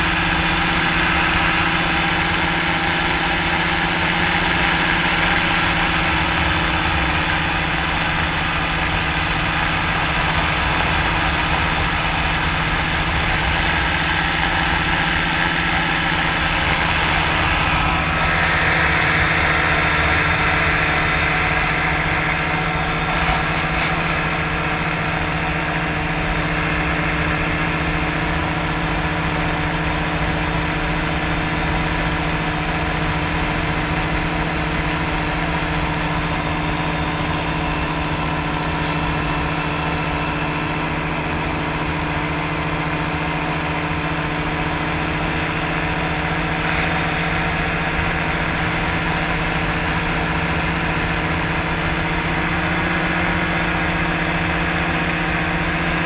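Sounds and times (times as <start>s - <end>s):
aircraft engine running: 0.0s - 56.0s.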